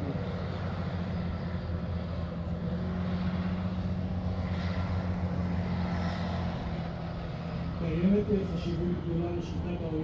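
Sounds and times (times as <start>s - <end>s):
tracked vehicle diesel engines droning: 0.0s - 10.0s.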